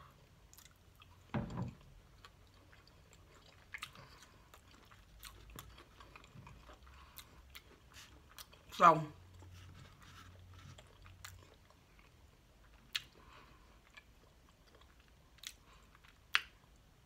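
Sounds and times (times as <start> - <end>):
wet chewing mouth sounds: 1.8 - 16.7.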